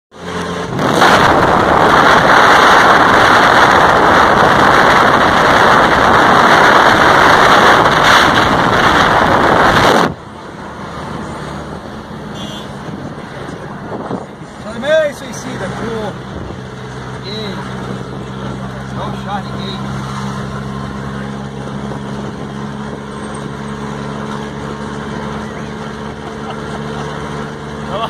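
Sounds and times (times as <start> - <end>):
off-road vehicle engine roaring: 0.1 - 28.0.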